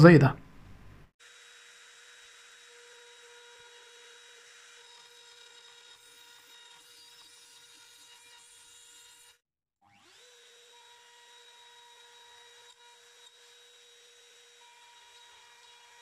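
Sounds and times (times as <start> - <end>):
wood router motor whine: 1.2 - 16.0.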